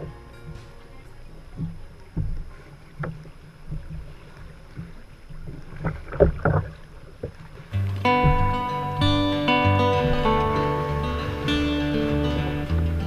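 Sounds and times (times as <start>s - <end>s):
paddle splashing in water: 0.0s - 13.0s
water lapping: 0.0s - 13.0s
wind rumble on microphone: 0.0s - 13.0s.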